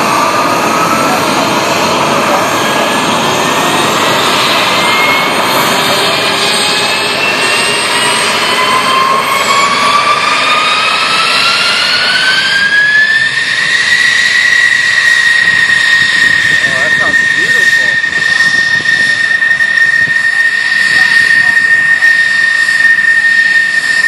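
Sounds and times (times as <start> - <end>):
jet engine whine: 0.0 - 24.0.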